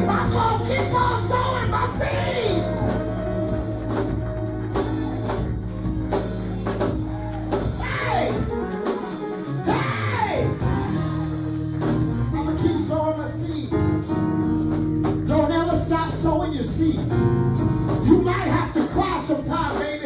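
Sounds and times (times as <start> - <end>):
keyboard chords: 0.0 - 20.0
steady drum beat: 0.0 - 20.0.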